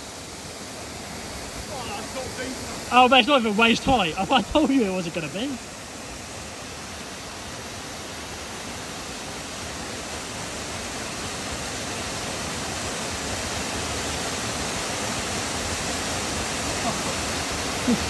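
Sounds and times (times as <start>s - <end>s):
waterfall pouring into a pool: 0.0s - 18.0s.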